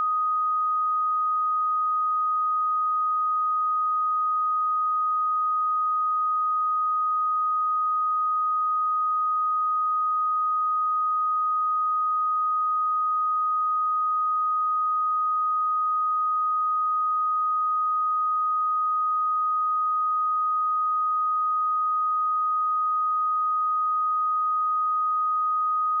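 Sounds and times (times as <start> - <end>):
high sine-wave test tone: 0.0 - 26.0.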